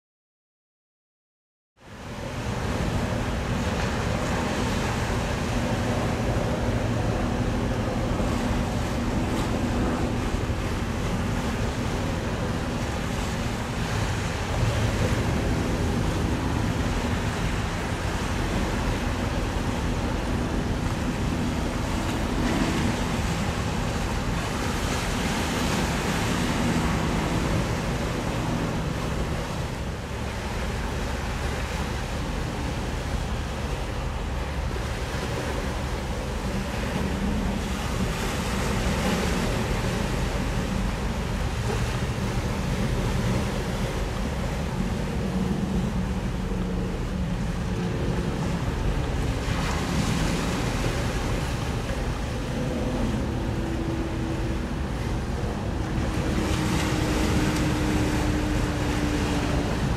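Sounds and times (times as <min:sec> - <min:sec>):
faint low drone: 0:01.8 - 0:59.9
water lapping against shore: 0:01.8 - 0:59.9
wind buffeting microphone: 0:02.0 - 0:59.9.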